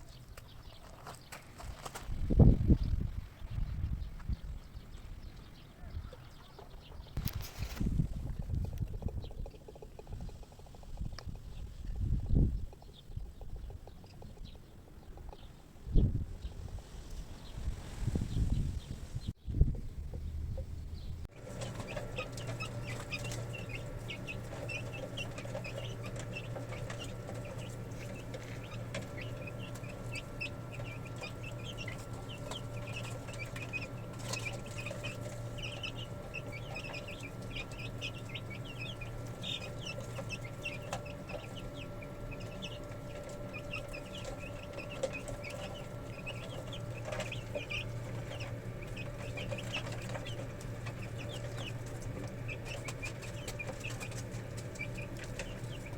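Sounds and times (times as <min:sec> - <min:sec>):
steady low hum: 0:00.0 - 0:55.9
chickens clucking: 0:04.2 - 0:18.7, 0:21.4 - 0:55.9.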